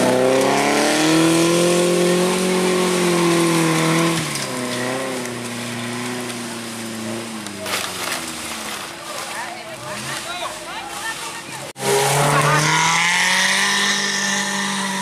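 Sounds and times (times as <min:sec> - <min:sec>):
vehicle engine revving: 0:00.0 - 0:10.7, 0:11.6 - 0:15.0.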